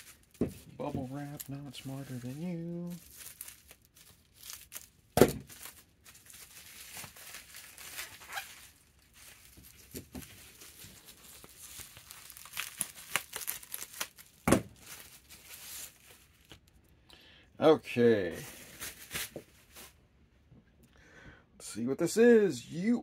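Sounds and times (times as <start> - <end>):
bubble wrap crinkling: 0.0 - 16.9, 18.2 - 20.0.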